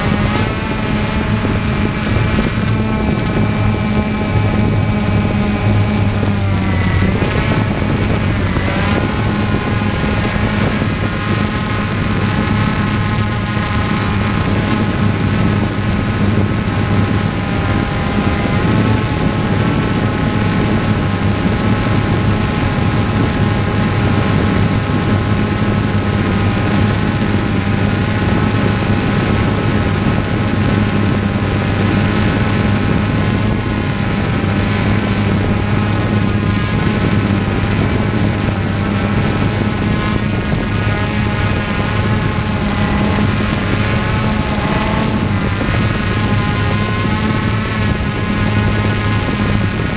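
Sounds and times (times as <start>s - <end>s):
propeller aircraft in flight: 0.0s - 49.9s.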